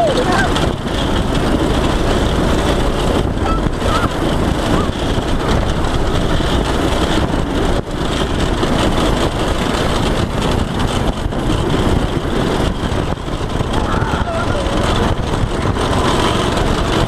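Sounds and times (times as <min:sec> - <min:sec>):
go-kart engine running: 0:00.0 - 0:17.0
rushing noise: 0:00.0 - 0:17.0.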